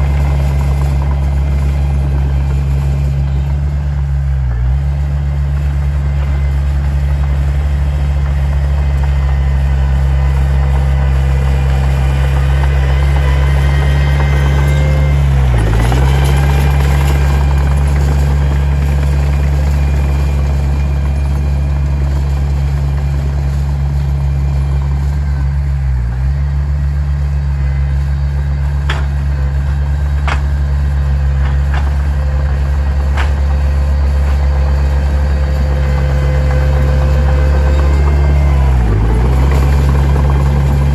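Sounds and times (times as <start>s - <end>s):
heavy diesel machine droning: 0.0s - 40.9s.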